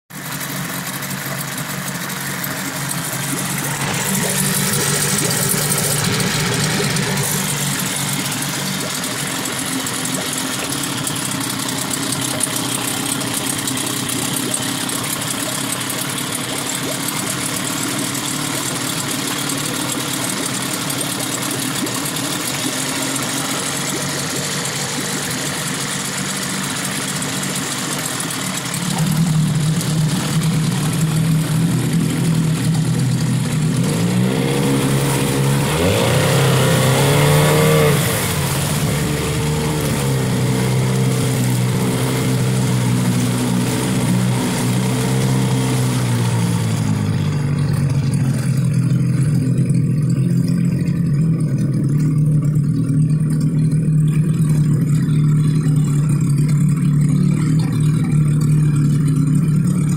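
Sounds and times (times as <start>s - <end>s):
outboard motor running: 0.0s - 59.9s
water churning: 0.1s - 59.9s.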